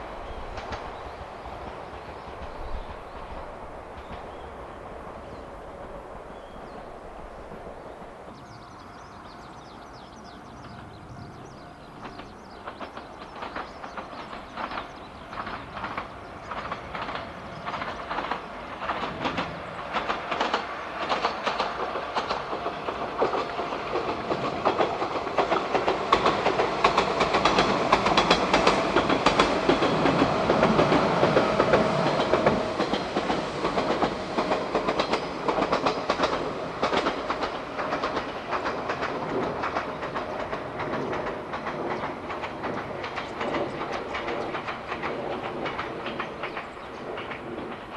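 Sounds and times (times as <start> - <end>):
train wheels clattering over rails: 0.0 - 47.9.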